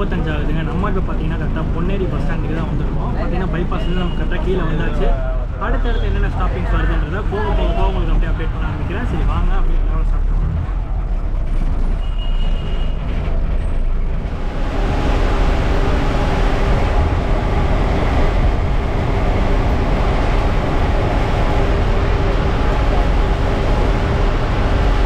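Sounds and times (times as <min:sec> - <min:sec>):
bus engine drone with whine: 0:00.0 - 0:25.0
road and wind noise: 0:00.0 - 0:25.0.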